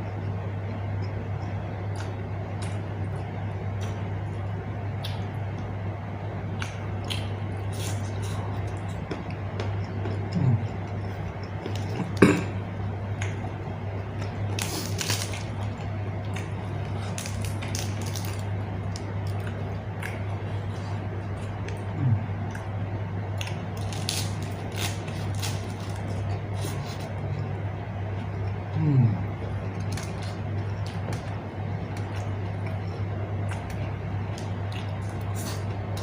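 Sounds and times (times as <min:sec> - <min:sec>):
person chewing food: 0:00.0 - 0:05.7, 0:06.5 - 0:36.0
low hum: 0:00.0 - 0:36.0.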